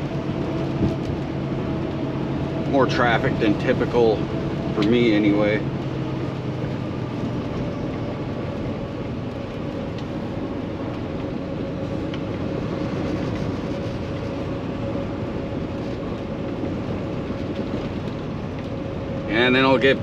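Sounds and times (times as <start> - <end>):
road noise: 0.0 - 20.0
truck diesel engine drone: 0.0 - 20.0.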